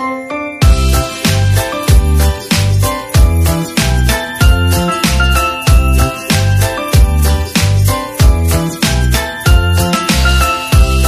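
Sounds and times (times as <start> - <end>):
music with heavy beat: 0.6 - 11.0.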